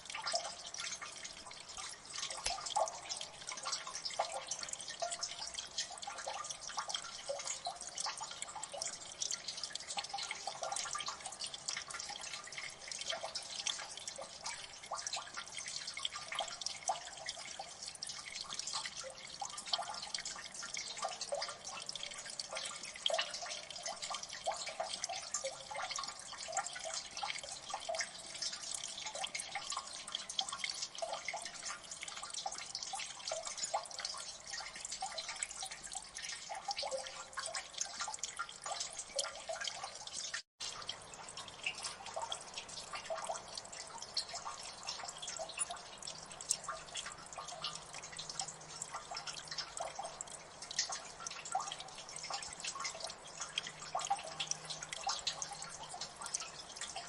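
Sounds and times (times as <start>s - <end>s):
water dripping: 0.0s - 57.0s.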